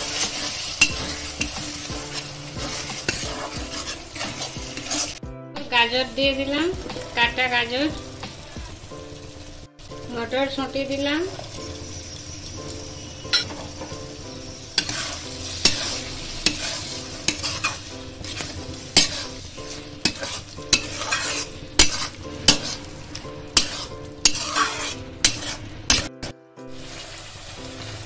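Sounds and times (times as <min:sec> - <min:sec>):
metal spatula scraping a pan: 0:00.0 - 0:08.5, 0:11.3 - 0:26.1
frying hiss: 0:00.0 - 0:28.0.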